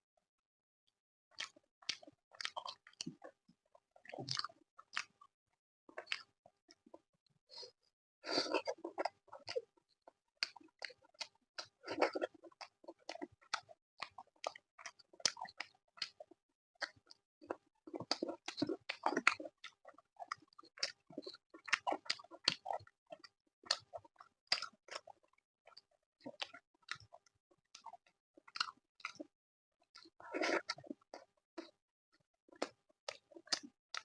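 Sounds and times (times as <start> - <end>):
wet chewing of food: 1.3 - 5.3, 5.9 - 34.0.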